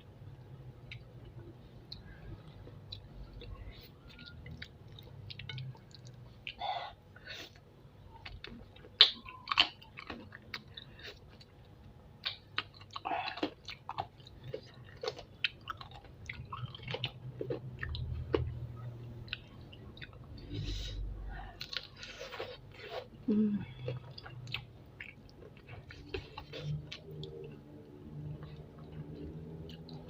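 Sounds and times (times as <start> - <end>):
person chewing and crunching: 0.8 - 6.7, 7.4 - 11.6, 12.2 - 20.9, 21.5 - 30.0.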